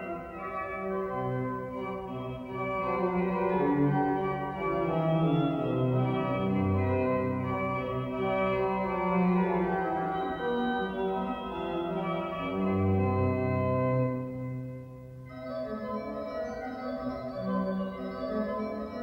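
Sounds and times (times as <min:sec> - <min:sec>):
organ music: 0:00.0 - 0:19.0.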